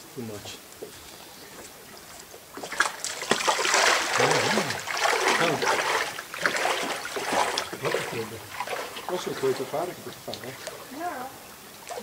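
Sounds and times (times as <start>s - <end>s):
water splashing: 1.9s - 12.0s.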